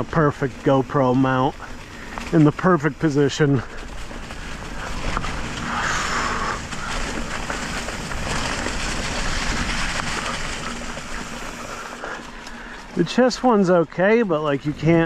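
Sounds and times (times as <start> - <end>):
bike tyre noise on dirt: 0.0 - 15.0.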